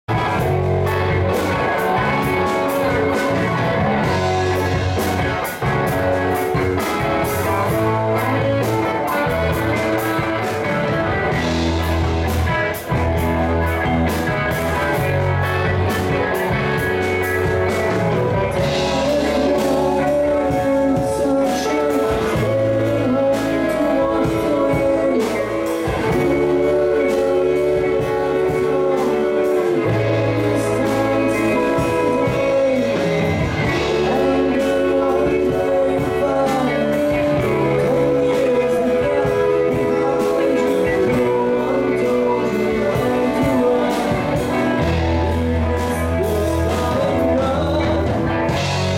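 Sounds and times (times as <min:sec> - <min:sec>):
bass guitar: 0:00.0 - 0:48.9
electric guitars: 0:00.0 - 0:48.9
keyboards: 0:00.0 - 0:48.9
person singing: 0:00.1 - 0:48.9.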